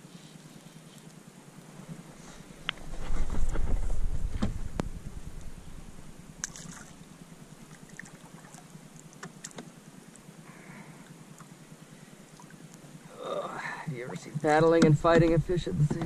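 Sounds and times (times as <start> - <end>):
calm water hush: 0.0 - 16.0.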